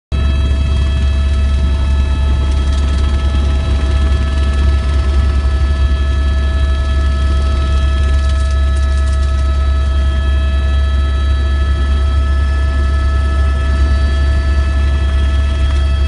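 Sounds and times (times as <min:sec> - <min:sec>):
helicopter rotor drone: 0:00.1 - 0:16.0
high turbine whine: 0:00.1 - 0:16.0.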